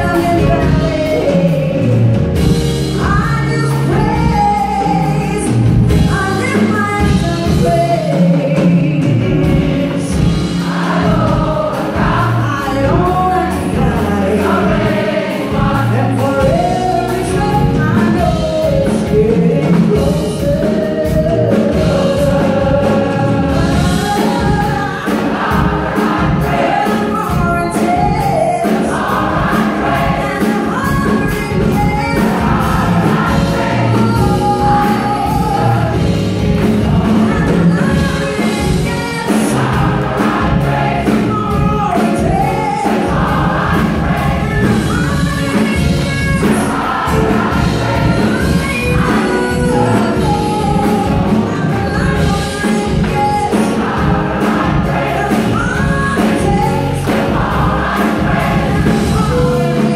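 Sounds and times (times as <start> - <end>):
drums steady beat: 0.0 - 59.9
gospel choir singing: 0.0 - 59.9
live band playing: 0.0 - 59.9.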